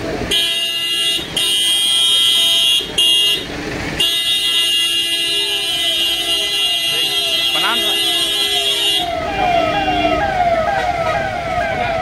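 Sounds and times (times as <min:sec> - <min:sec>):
vehicle horn blasts: 0:00.3 - 0:10.3.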